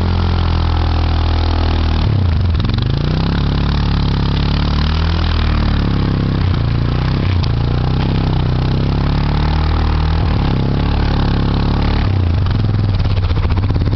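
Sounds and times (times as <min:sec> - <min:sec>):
atv engine running: 0:00.0 - 0:13.9.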